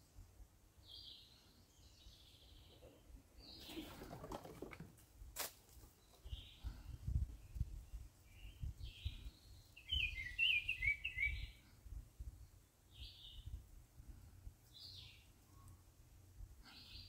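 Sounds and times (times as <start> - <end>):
songbirds chirping and warbling: 0.7 - 4.8, 5.8 - 17.0.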